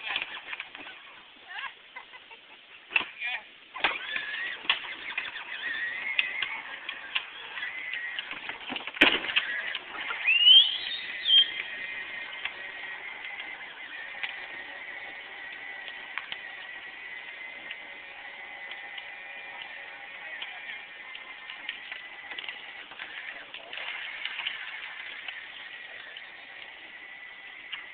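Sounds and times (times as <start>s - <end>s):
electric toy motor whining: 3.8s - 27.9s.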